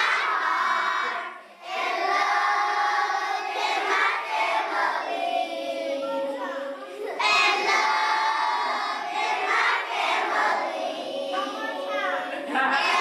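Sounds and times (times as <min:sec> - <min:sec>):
children singing and calling: 0:00.0 - 0:13.0.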